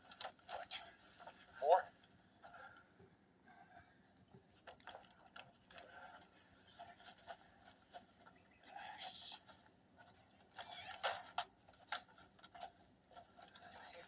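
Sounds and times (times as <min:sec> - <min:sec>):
soft rustles: 0:00.0 - 0:14.0.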